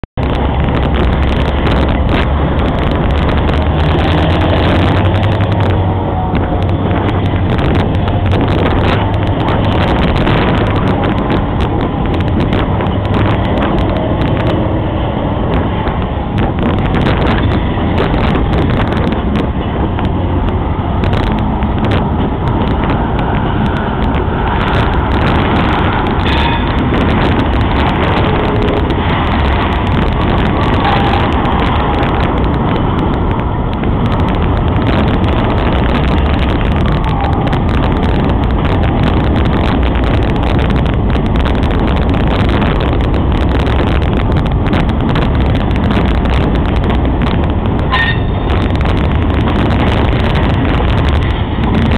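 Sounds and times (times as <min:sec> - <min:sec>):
steel wheels rumbling on rails: 0:00.0 - 0:51.9.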